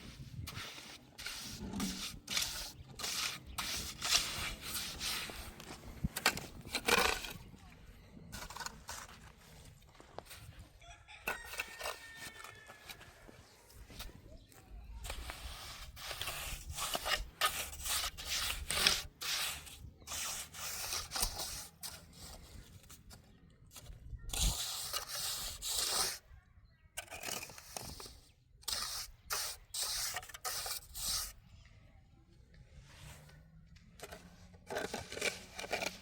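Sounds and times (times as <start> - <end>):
rough scraping strokes: 0.0 - 7.6, 8.2 - 14.3, 15.0 - 23.1, 23.8 - 26.3, 27.0 - 31.4, 34.0 - 36.0.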